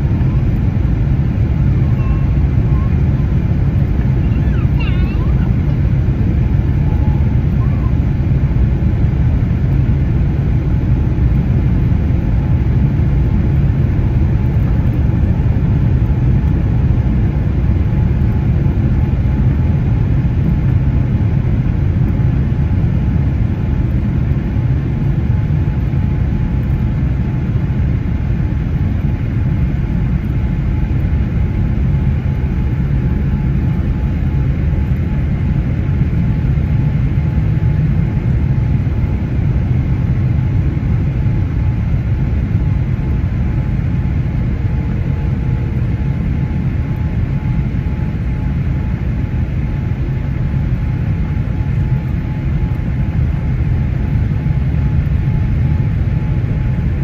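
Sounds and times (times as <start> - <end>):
jet engine cabin rumble: 0.0 - 57.0.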